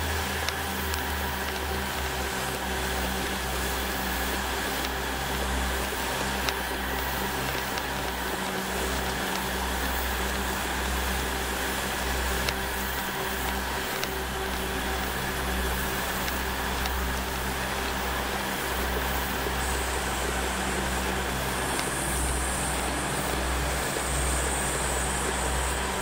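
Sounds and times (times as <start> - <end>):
quadcopter motors and propellers: 0.0 - 26.0.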